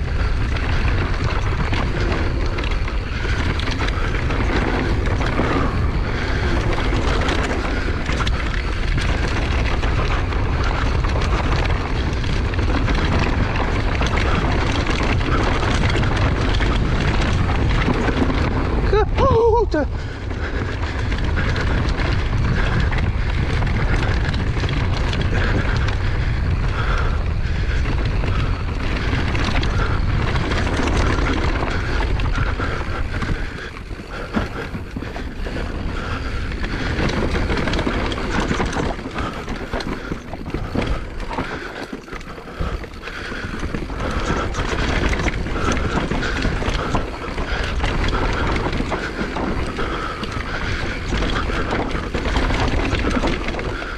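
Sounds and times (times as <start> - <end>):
bike tyres rattling over dirt trail: 0.0 - 53.9
wind buffeting microphone: 0.0 - 53.9.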